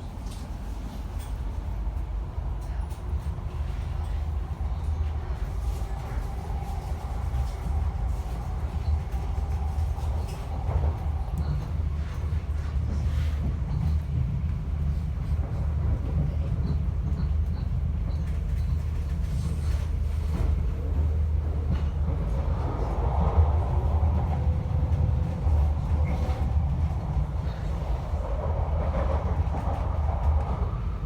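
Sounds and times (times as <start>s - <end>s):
passenger train rumbling: 0.0s - 31.0s.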